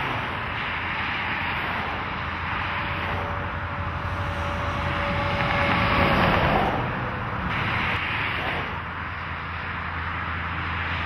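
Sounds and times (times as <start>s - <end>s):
truck passing on highway: 0.0s - 11.0s.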